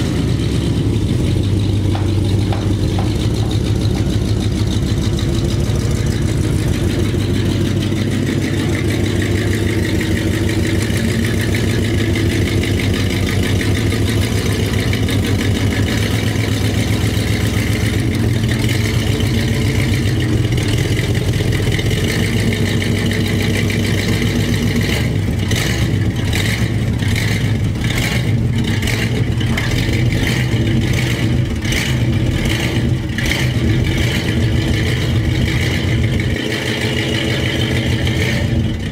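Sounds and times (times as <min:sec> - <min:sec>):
truck engine deep exhaust note: 0:00.0 - 0:38.9.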